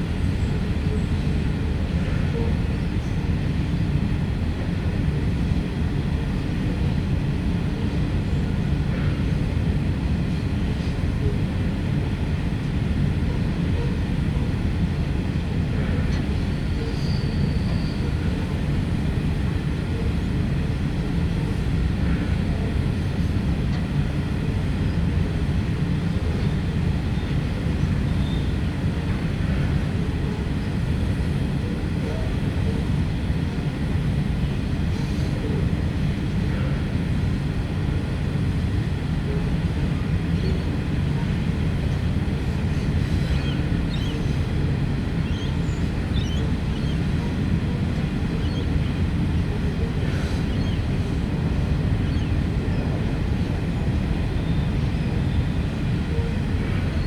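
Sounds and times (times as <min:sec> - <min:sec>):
train rumbling by: 0:00.0 - 0:57.0.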